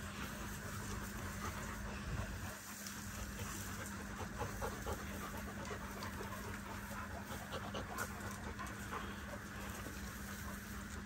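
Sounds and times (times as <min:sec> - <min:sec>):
dog panting: 0:00.0 - 0:11.0
steady low hum: 0:00.0 - 0:11.0.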